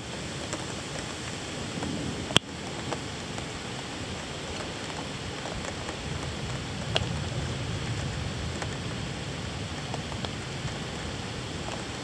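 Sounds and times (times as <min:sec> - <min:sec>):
raindrops clicking nearby: 0:00.0 - 0:12.0
steady rain falling: 0:00.0 - 0:12.0.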